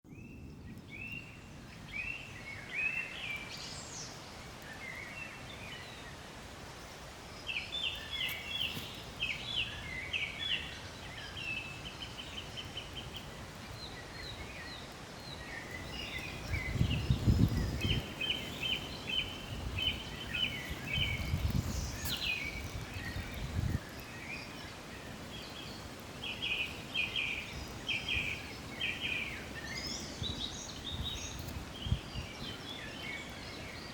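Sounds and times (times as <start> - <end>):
songbirds chirping: 0.1 - 33.9
steady outdoor hiss: 0.1 - 33.9.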